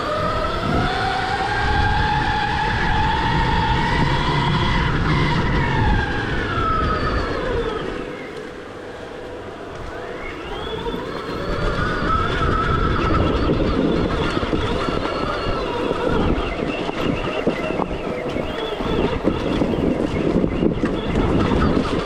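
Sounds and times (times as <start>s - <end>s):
electric motor whining: 0.0s - 22.0s
wind noise: 0.0s - 22.0s.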